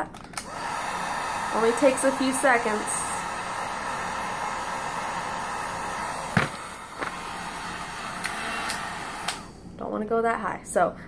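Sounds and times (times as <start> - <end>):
heat gun blowing: 0.4 - 9.7.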